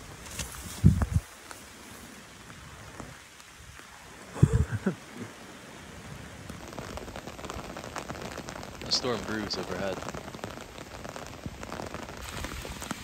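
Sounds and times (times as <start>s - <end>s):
light rain on vegetation: 0.0s - 13.0s.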